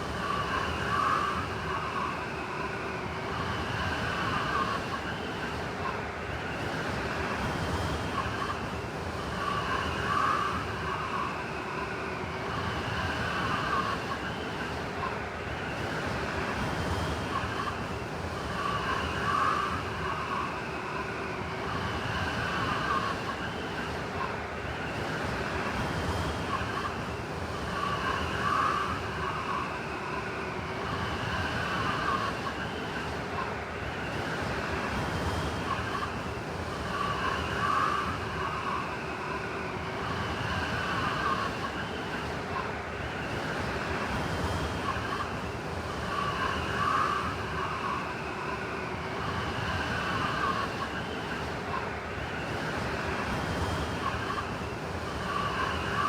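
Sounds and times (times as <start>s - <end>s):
blizzard wind whistling: 0.0s - 56.0s.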